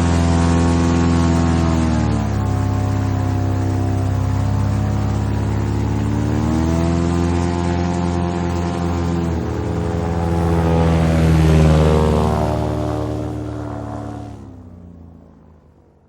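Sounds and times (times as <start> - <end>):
airboat engine and propeller running: 0.0 - 16.0.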